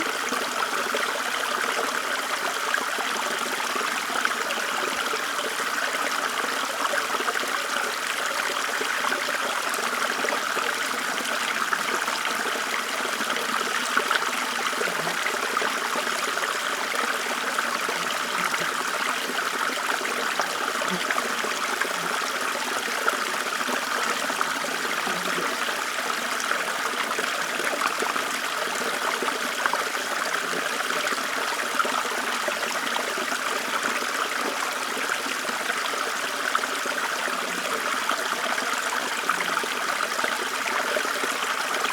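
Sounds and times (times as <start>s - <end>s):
stream trickling and babbling: 0.0s - 41.9s.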